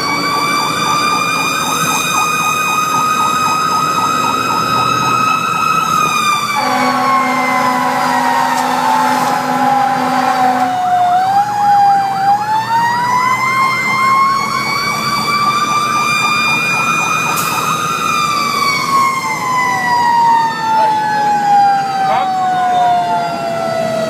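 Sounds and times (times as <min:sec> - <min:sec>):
siren climbing and winding down: 0:00.0 - 0:24.0
siren warbling rapidly: 0:00.0 - 0:24.0
sweeping siren tone: 0:00.0 - 0:24.0.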